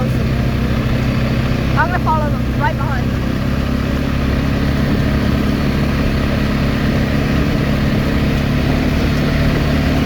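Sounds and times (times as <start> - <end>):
quad bike engine running: 0.0 - 10.0
wind and tyre noise: 0.0 - 10.0.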